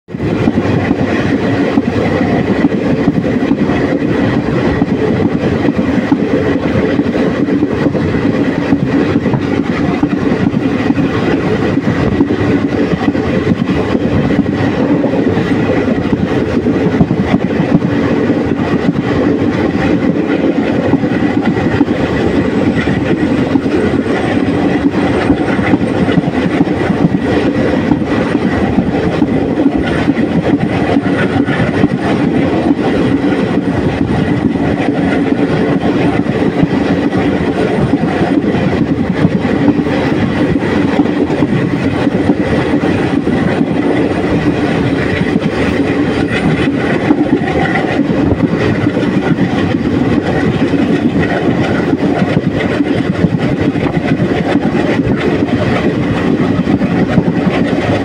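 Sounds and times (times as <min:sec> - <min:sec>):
train wheels rushing on track: 0:00.1 - 0:58.0
continuous rattle: 0:00.2 - 0:58.0.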